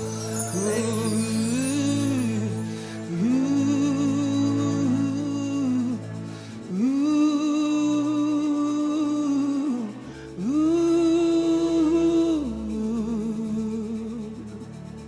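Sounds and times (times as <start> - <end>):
slow worship music: 0.0 - 15.0.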